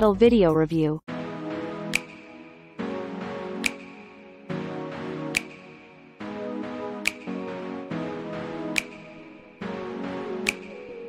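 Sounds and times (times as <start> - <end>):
music with held chords: 1.1 - 11.0.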